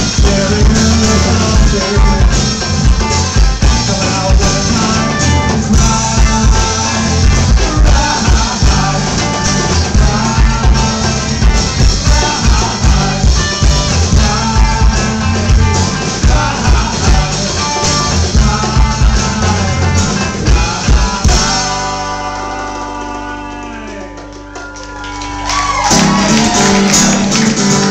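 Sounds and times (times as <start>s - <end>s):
rock band playing live: 0.0s - 27.9s.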